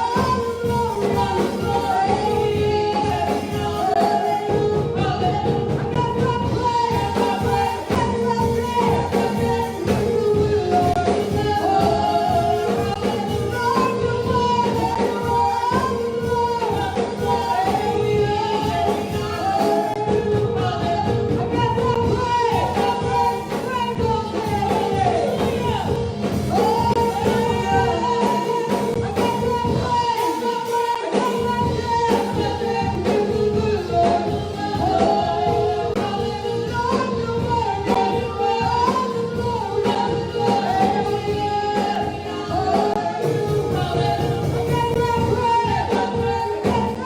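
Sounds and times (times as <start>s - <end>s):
instrumental backing music: 0.0s - 47.0s
person singing a melody: 0.0s - 47.0s.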